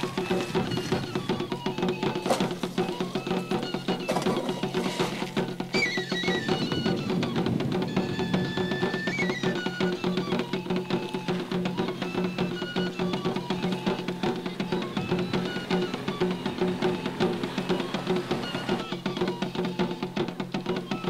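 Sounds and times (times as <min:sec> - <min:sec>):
music with busy drum beat: 0:00.0 - 0:21.0.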